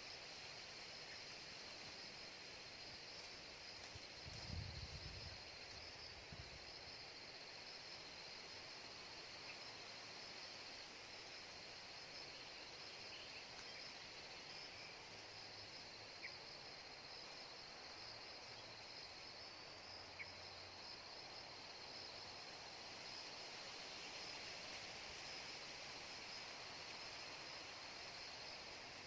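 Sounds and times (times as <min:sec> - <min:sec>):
insect chorus buzzing: 0:00.0 - 0:29.0.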